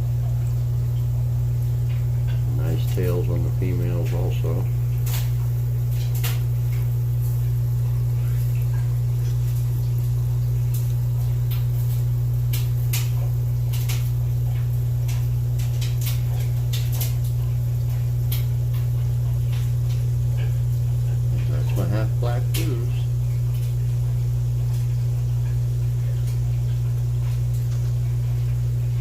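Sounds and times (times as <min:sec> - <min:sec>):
aquarium pump humming: 0:00.0 - 0:29.0.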